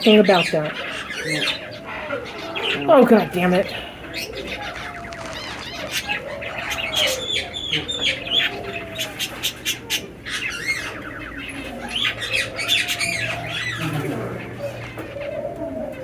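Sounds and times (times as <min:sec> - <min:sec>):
birds cooing: 0:00.0 - 0:16.0
caged birds chirping and squawking: 0:00.0 - 0:16.0.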